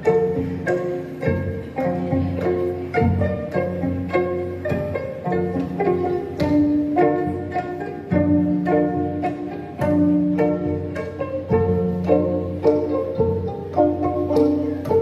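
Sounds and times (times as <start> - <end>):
plucked zither melody: 0.0 - 15.0.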